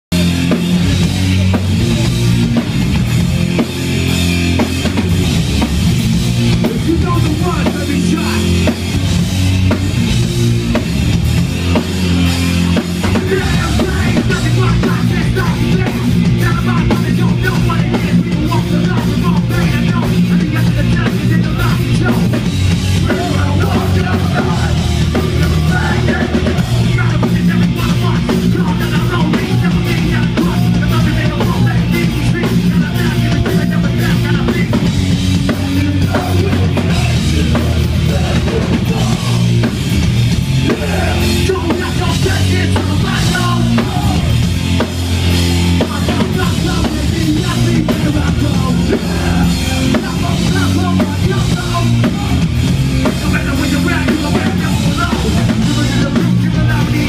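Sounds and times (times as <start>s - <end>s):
pounding drum kit: 0.1s - 57.0s
punk band playing live: 0.1s - 57.0s.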